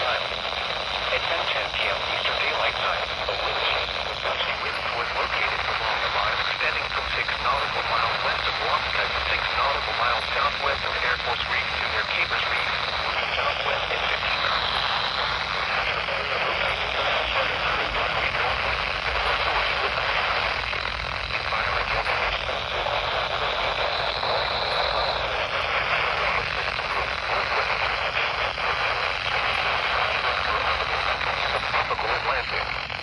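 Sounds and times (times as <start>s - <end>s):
faint voice over radio: 0.0s - 33.0s
interfering radio station: 0.0s - 33.0s
radio static hiss: 0.0s - 33.0s.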